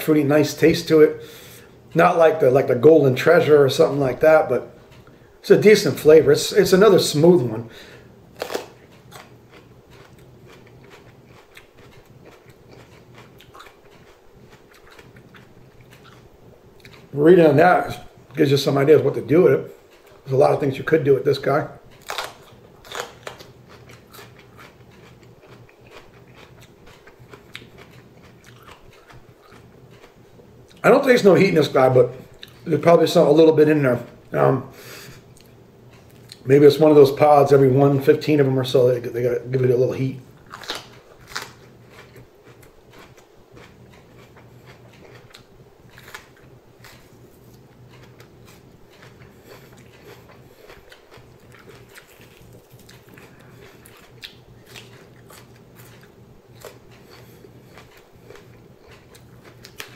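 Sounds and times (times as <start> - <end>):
low room hum: 0.0 - 59.9
sweet pepper being chewed: 0.0 - 59.9.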